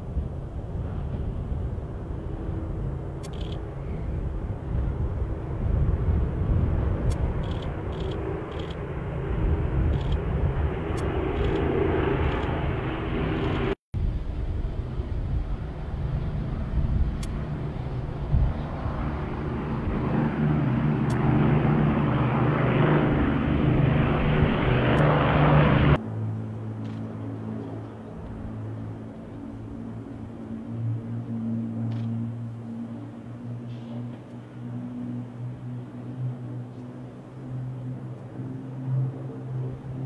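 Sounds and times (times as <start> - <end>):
propeller aircraft engines droning: 0.0 - 40.0.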